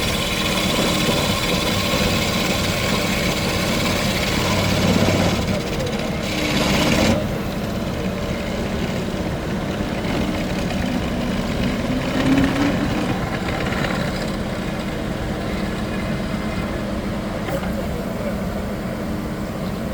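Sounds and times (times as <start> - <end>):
drilling rig engine running: 0.0 - 19.9
harsh machine noise: 0.0 - 19.9.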